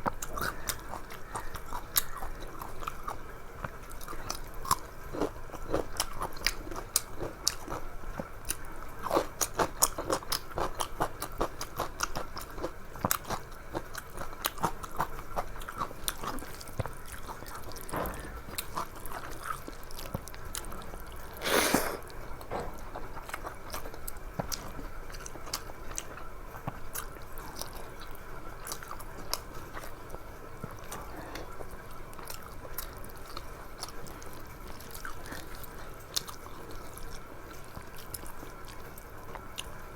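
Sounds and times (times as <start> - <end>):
person chewing with mouth smacks: 0.0 - 39.7.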